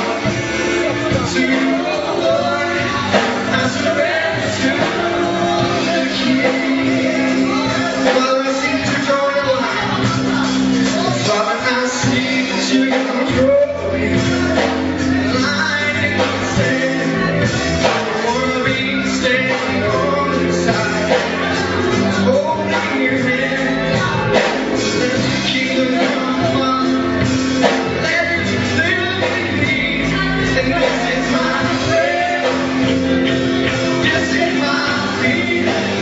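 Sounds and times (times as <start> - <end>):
band playing worship music: 0.0 - 36.0
voices singing: 0.0 - 36.0.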